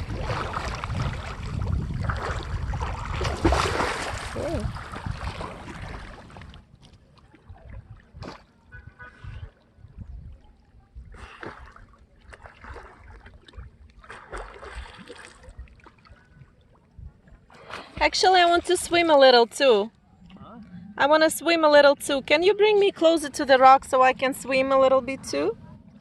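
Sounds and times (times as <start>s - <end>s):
water splashing around boat: 0.0s - 21.2s.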